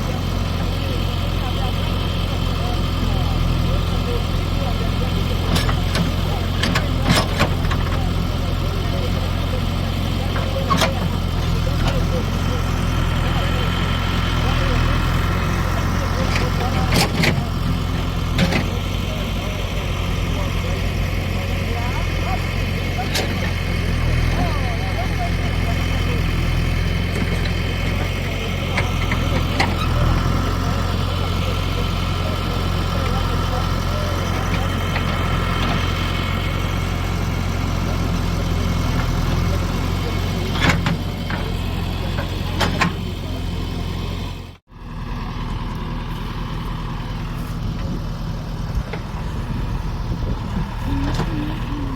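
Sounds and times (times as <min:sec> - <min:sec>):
engine humming: 0:00.0 - 0:51.9.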